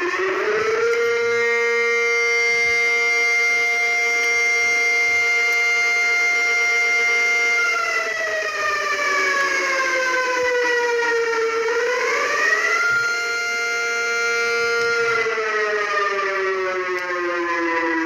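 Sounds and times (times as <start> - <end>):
two-tone warning siren: 0.0 - 18.0.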